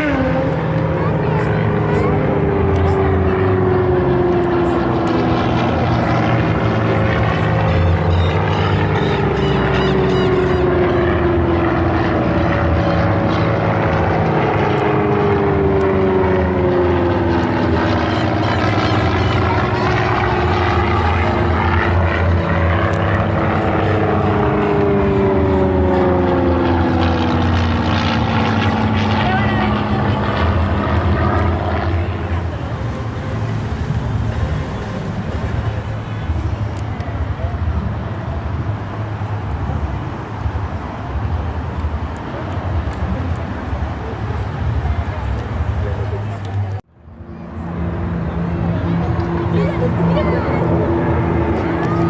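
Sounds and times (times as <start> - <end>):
propeller aircraft flying past: 0.0 - 52.0.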